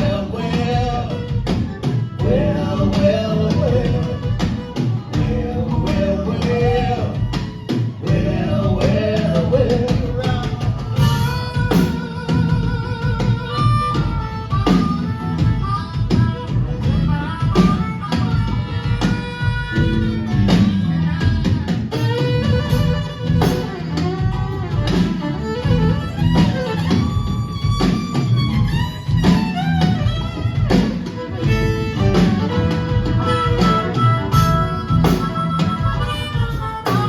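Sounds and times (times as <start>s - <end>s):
drums beating: 0.0s - 37.0s
lead melody line: 0.0s - 37.0s
live band playing: 0.0s - 37.0s.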